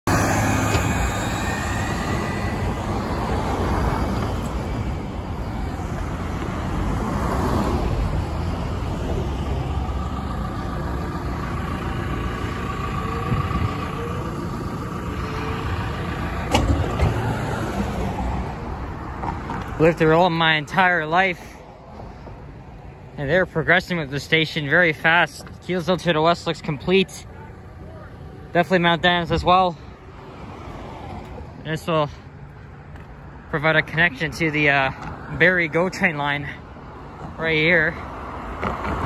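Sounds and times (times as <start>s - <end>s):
city bus: 0.0s - 39.0s
road traffic: 0.0s - 39.0s.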